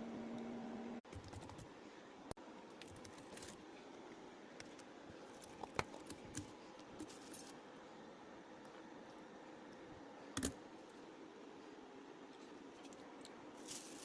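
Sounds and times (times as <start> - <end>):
faint steady background: 0.0 - 14.0.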